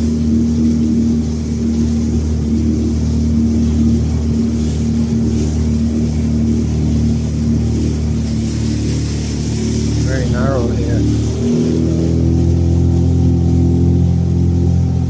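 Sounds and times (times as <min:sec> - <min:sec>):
boat engine running: 0:00.0 - 0:15.0
faint hiss of wind and water: 0:00.0 - 0:15.0.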